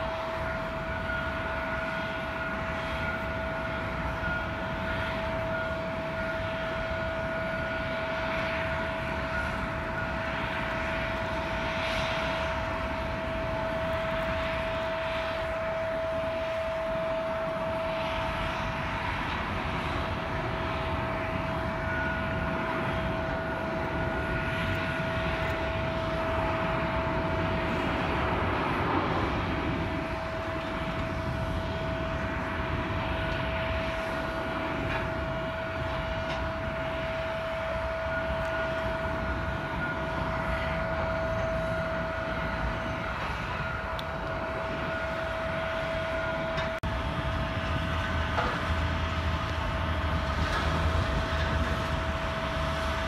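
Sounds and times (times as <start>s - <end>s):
jet aircraft rumble and whine: 0.0s - 53.0s.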